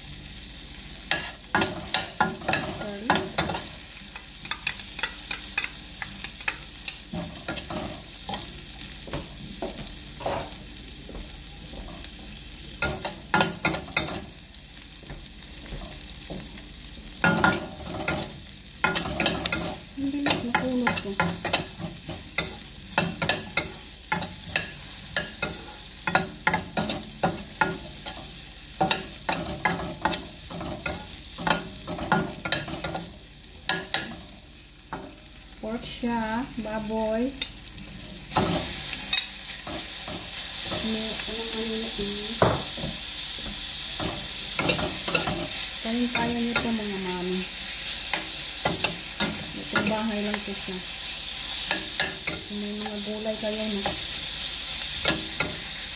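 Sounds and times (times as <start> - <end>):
onions sizzling in oil: 0.0 - 55.9.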